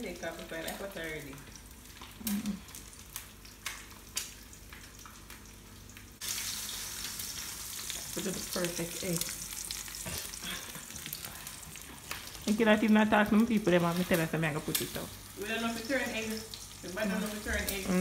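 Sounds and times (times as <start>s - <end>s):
egg sizzling in skillet: 0.0s - 18.0s.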